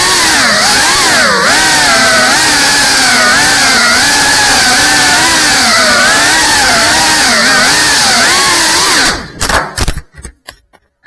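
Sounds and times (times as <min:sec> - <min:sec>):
drone motors whining: 0:00.0 - 0:09.4.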